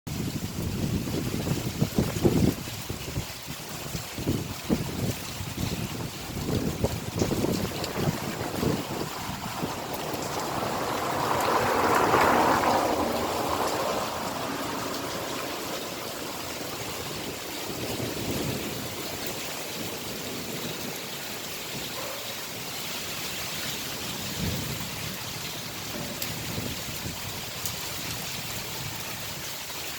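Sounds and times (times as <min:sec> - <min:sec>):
heavy rain falling: 0:00.1 - 0:29.9.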